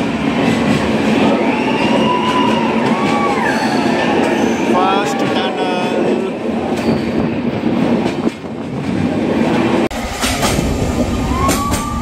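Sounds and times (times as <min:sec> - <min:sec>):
train wheels clicking on rails: 0:00.0 - 0:09.2, 0:09.8 - 0:12.0
deep train rumble: 0:00.0 - 0:12.0.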